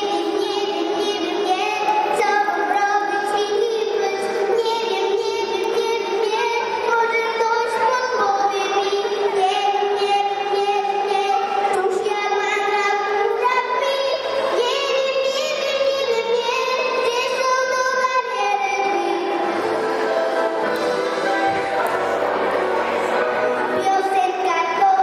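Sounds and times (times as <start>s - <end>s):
girl singing into a microphone: 0.0s - 19.6s, 23.8s - 25.0s.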